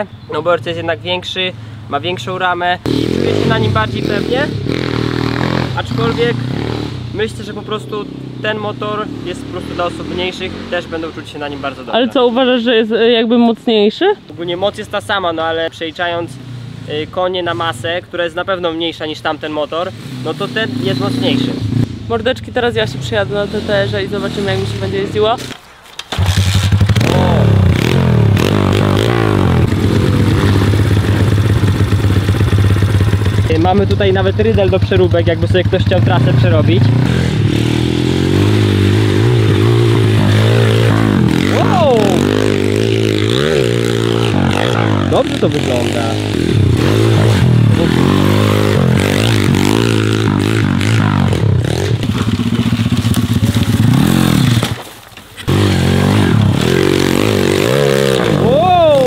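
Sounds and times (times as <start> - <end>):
motorbike engine revving: 2.8 - 12.1, 19.7 - 22.2, 22.8 - 54.8, 55.5 - 59.0.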